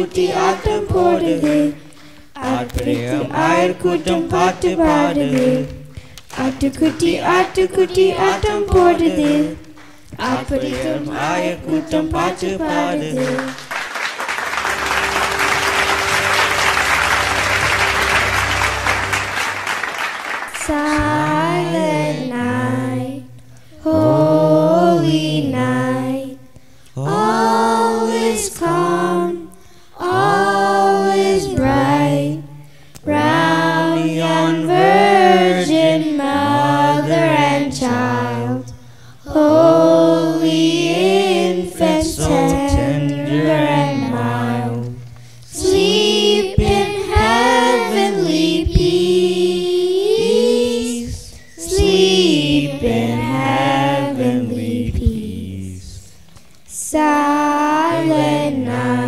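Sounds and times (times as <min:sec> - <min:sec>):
children's choir singing carol: 0:00.0 - 0:59.0.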